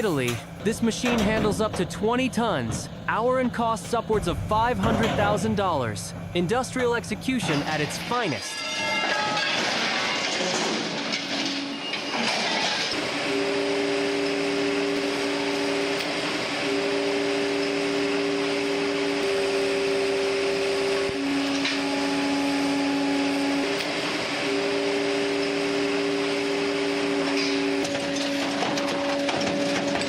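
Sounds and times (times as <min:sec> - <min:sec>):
industrial machinery running: 0:00.0 - 0:30.0.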